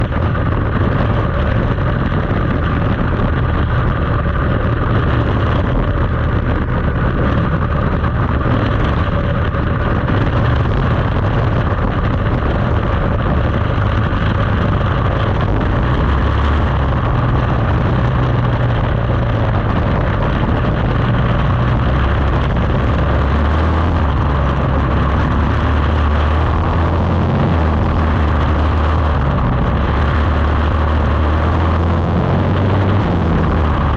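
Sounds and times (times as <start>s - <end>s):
race car engine running: 0.0s - 33.9s.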